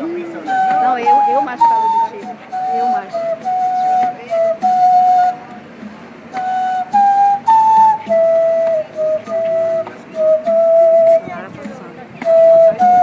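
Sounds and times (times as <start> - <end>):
flute playing slow melody: 0.0 - 13.0.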